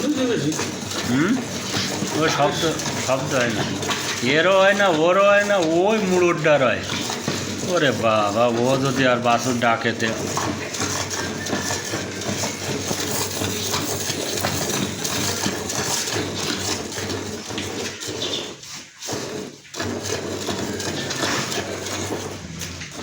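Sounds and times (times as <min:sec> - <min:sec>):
milk squirting into metal pot: 0:00.0 - 0:23.0.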